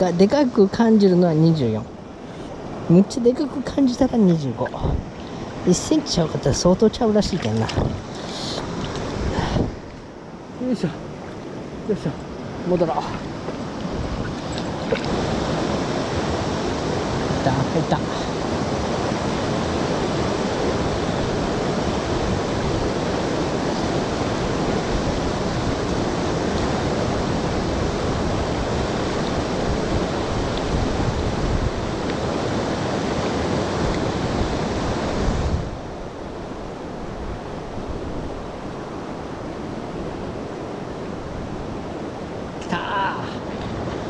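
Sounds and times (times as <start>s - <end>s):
river current rushing: 0.0s - 44.0s.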